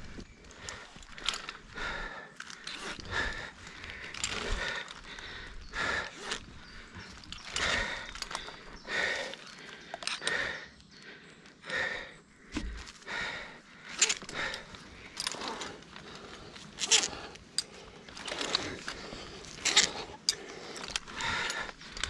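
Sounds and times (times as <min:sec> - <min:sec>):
heavy labouring breathing: 0:00.0 - 0:22.0
metallic clinks of climbing hardware: 0:00.2 - 0:11.0, 0:13.8 - 0:22.0.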